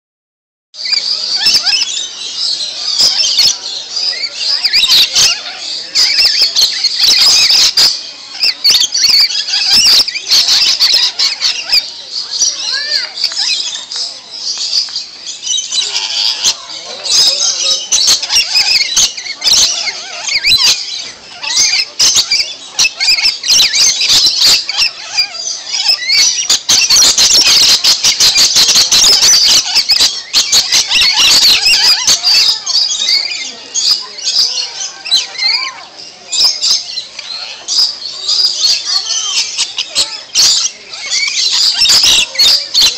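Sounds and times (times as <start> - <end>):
lorikeets screeching and squawking: 0.8 - 42.9.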